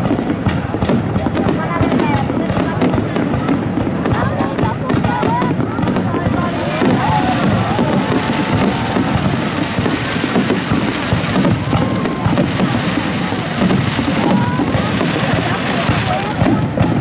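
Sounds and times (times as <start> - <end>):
fireworks booming and crackling: 0.0 - 17.0.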